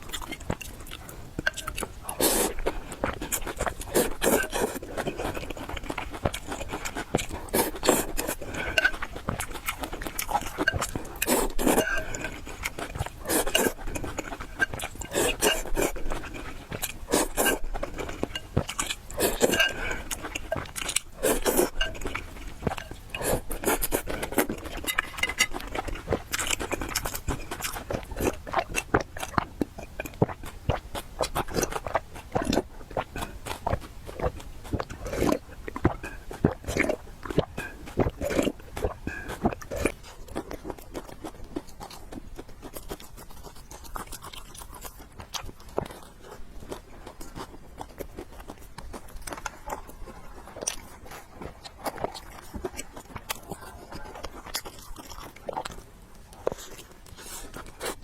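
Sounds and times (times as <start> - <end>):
chewing with wet mouth clicks: 0.0 - 58.0.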